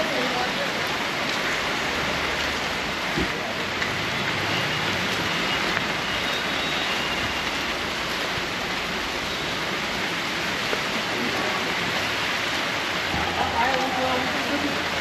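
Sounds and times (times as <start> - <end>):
rain falling on ground and cars: 0.0 - 15.0.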